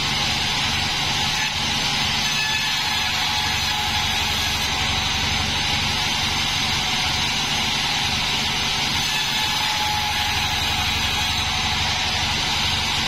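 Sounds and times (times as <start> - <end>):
sawmill motor hum: 0.0 - 13.0.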